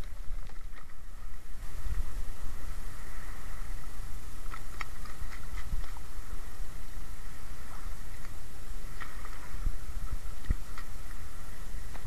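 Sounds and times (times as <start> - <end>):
choppy water: 0.0 - 12.0
wind rumbling on microphone: 0.0 - 12.0.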